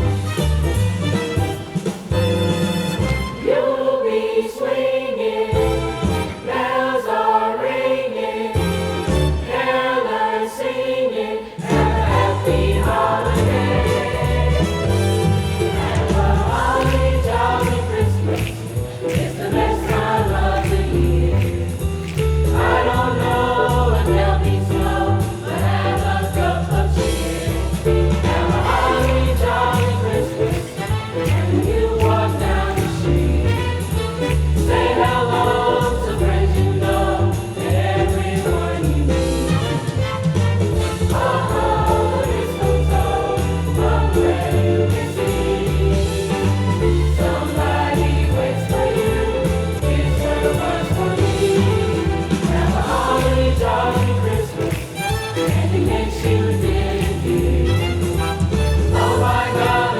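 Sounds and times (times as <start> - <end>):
instrumental backing with bass: 0.0 - 3.5, 8.6 - 9.6, 11.7 - 59.9
choir singing: 3.3 - 59.9.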